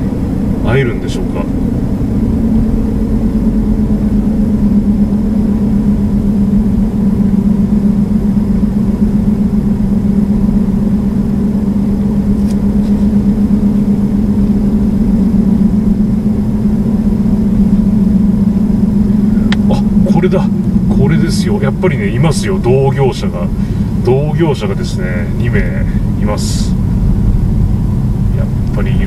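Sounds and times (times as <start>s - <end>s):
car engine and tyre drone: 0.0s - 29.0s.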